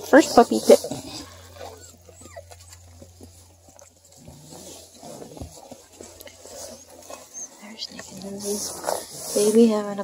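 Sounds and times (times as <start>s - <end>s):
faint low hum: 0.0s - 10.0s
puppies rustling on dry leaves: 0.0s - 10.0s.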